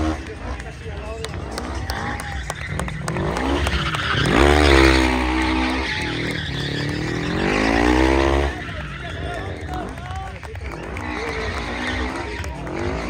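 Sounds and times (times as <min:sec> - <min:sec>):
quad bike engine revving: 0:00.0 - 0:13.0
tyres skidding on asphalt: 0:00.0 - 0:13.0.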